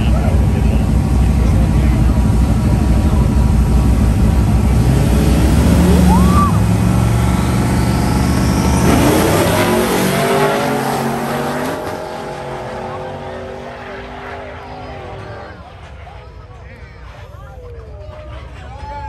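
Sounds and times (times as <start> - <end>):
drag racing engines revving: 0.0 - 18.7.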